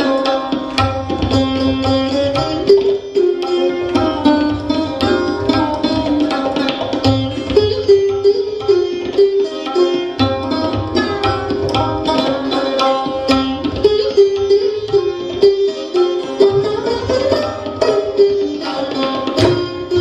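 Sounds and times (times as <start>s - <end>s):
plucked strings playing: 0.0s - 20.0s
tabla drumming: 0.0s - 20.0s.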